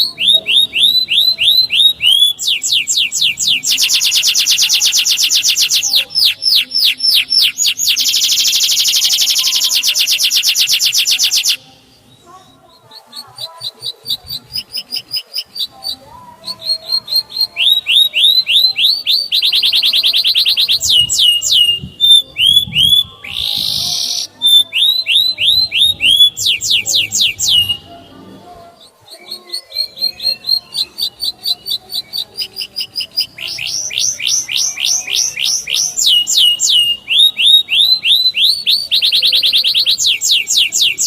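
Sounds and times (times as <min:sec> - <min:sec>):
canary singing: 0:00.0 - 0:41.0.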